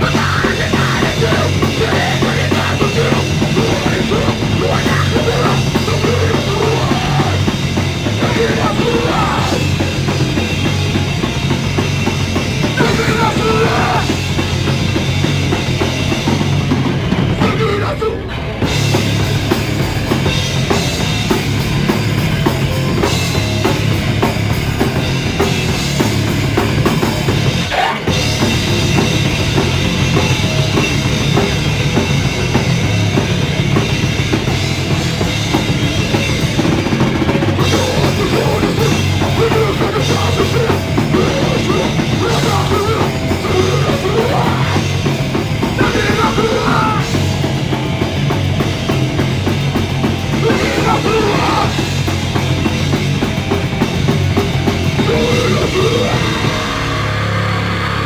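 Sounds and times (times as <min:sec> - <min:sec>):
drum kit: 0:00.0 - 0:58.0
punk rock band playing live: 0:00.0 - 0:58.0.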